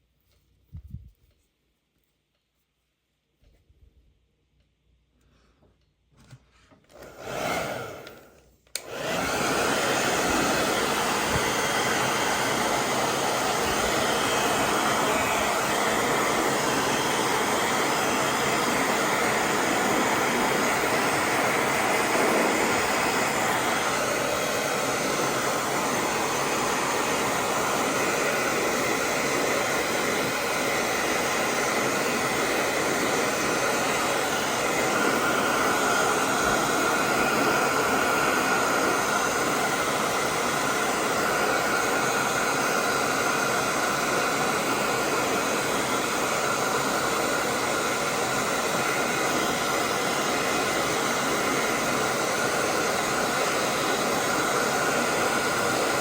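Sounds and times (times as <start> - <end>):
hair dryer blowing: 6.8 - 56.0.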